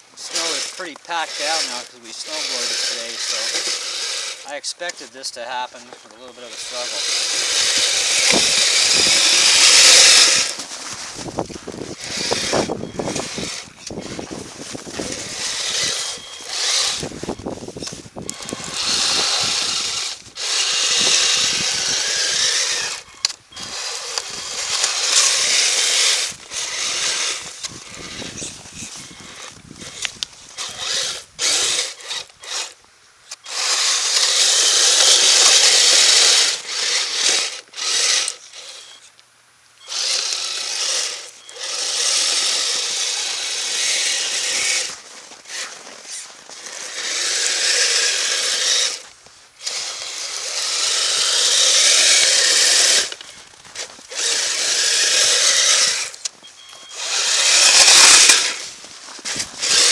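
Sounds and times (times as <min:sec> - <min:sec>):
toy electric motor whining: 0:00.2 - 0:39.2, 0:39.8 - 0:59.9.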